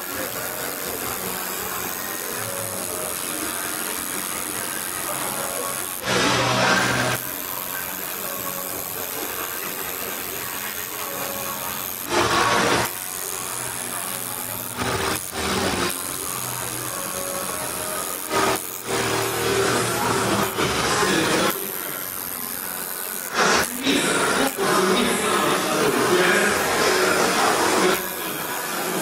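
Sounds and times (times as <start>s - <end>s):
tattoo machine buzzing: 0.0s - 29.0s.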